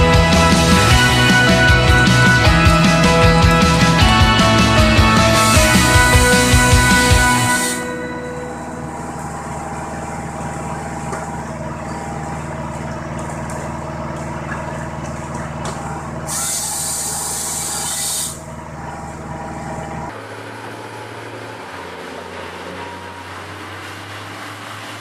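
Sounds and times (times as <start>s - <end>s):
machine engine and hydraulic drone: 0.0s - 25.0s.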